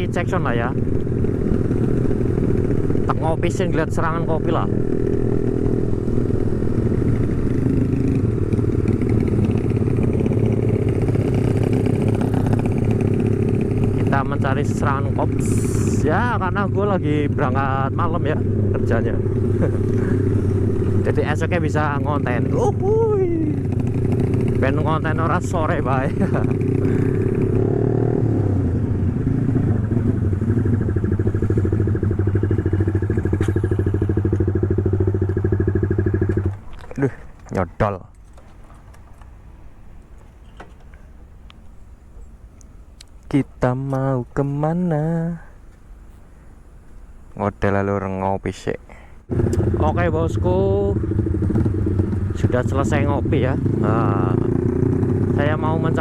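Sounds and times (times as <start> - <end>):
motorcycle engine running: 0.0 - 42.4, 49.2 - 56.0.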